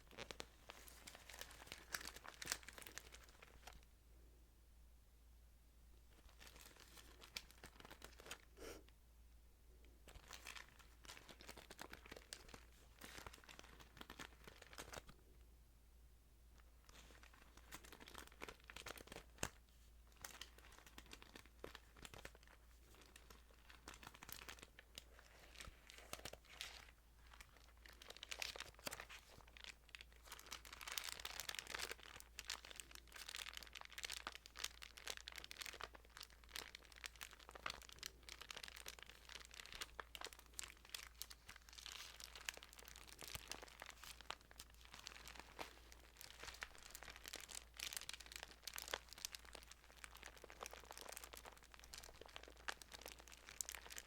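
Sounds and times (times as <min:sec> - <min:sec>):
thin pages rustling and crinkling: 0:00.0 - 0:03.8, 0:10.1 - 0:15.1, 0:16.8 - 0:54.0.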